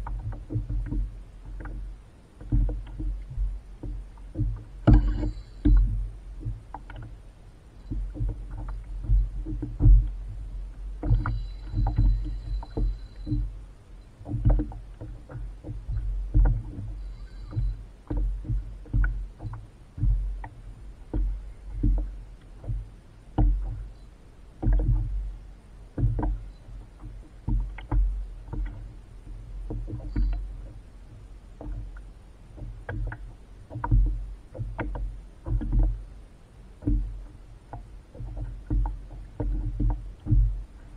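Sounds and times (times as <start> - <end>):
small knocks: 0.0 - 7.2, 7.8 - 13.6, 14.2 - 24.0, 24.6 - 25.3, 25.9 - 36.0, 36.8 - 40.9
water slapping against kayak hull: 0.0 - 40.9.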